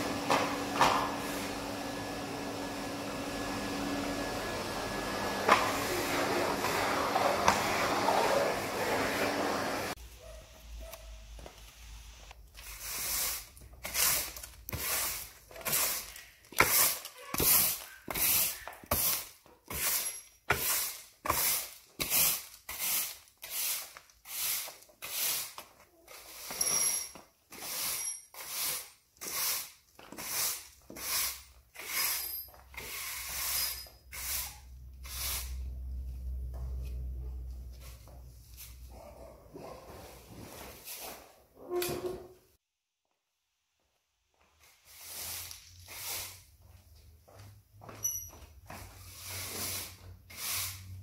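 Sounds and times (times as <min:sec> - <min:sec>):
broom sweeping concrete floor: 0:00.0 - 0:41.5, 0:44.4 - 0:51.0.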